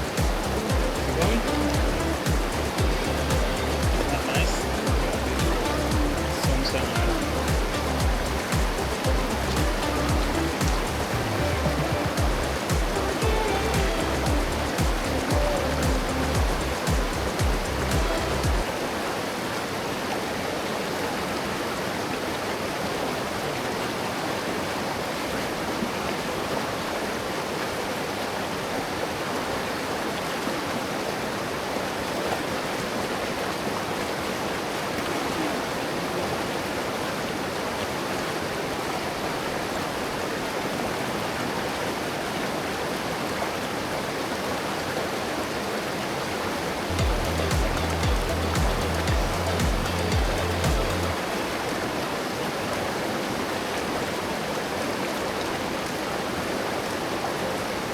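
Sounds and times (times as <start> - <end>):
river water rushing and splashing: 0.0 - 57.9.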